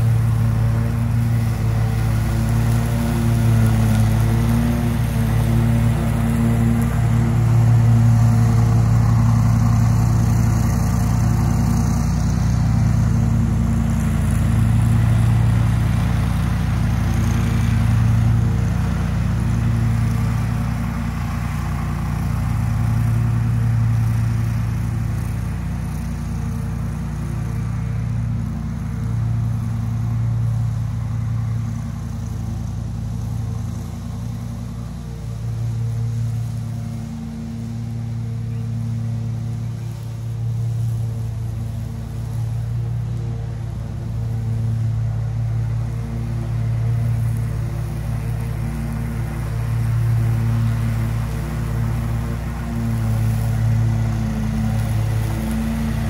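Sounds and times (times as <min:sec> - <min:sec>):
mower engine running under load: 0:00.0 - 0:56.0.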